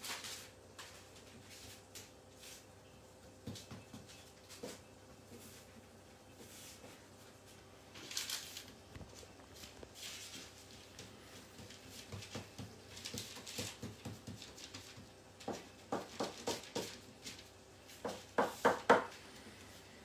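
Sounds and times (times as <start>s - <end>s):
baking paper rustling: 0.0s - 20.0s.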